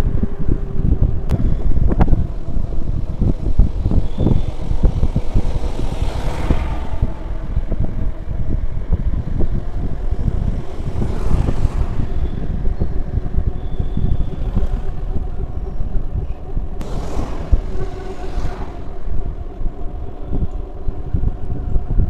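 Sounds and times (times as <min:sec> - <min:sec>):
passing traffic rush: 0:00.0 - 0:22.0
wind buffeting microphone: 0:00.0 - 0:22.0.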